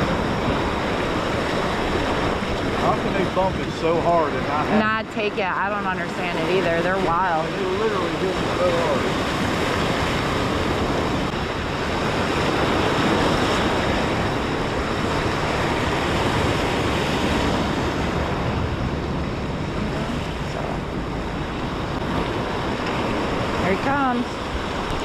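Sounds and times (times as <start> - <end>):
surf rushing against rocks: 0.0 - 25.0
wind buffeting microphone: 0.0 - 25.0.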